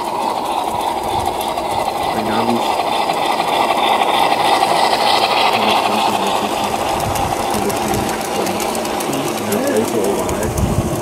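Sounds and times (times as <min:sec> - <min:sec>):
model train motor whirring: 0:00.0 - 0:11.0.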